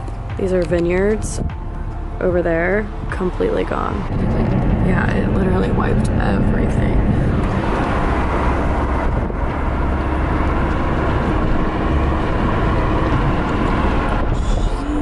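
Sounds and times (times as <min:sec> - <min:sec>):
car engine drone: 0:00.0 - 0:15.0
road and tyre noise: 0:00.0 - 0:15.0.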